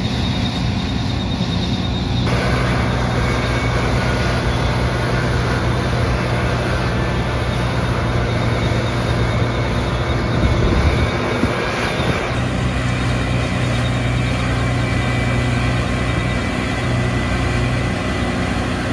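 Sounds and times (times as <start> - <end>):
combine harvester running: 0.0 - 18.9.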